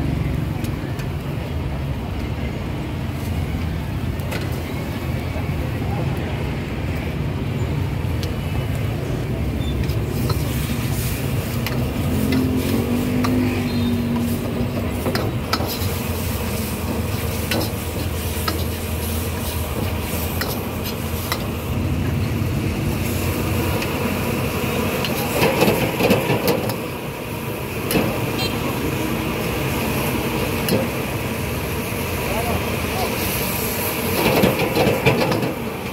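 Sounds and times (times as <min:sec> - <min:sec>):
passing traffic rumble: 0:00.0 - 0:35.9.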